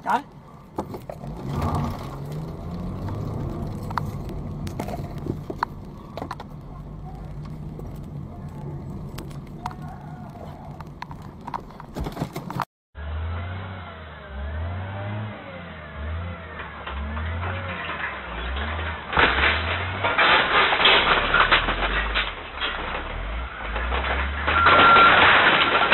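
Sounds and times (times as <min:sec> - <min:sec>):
car engine and road hum: 0:00.0 - 0:24.4.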